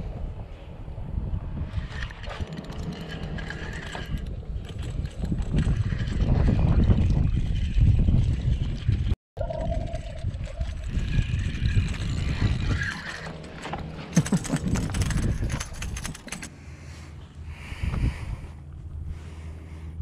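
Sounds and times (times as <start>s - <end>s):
wind buffeting microphone: 0.0s - 13.2s, 14.2s - 16.3s, 17.5s - 19.4s.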